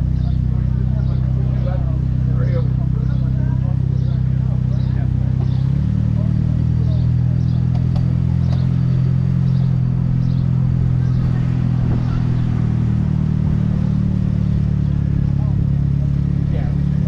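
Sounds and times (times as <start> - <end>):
car engine humming at low speed: 0.0 - 17.0.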